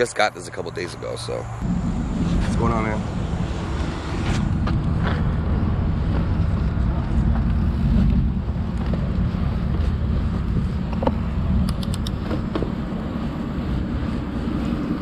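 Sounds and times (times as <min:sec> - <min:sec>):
wind buffeting microphone: 0:00.9 - 0:15.0
bike rolling on pavement: 0:01.6 - 0:15.0.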